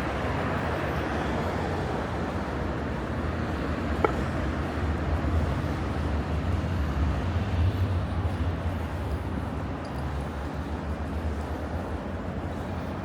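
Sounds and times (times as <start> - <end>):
road traffic rumble and hiss: 0.0 - 13.0.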